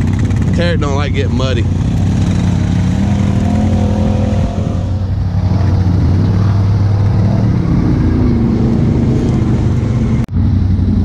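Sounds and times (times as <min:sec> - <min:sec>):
engine revving in mud: 0:00.0 - 0:11.0
low engine drone: 0:00.0 - 0:11.0.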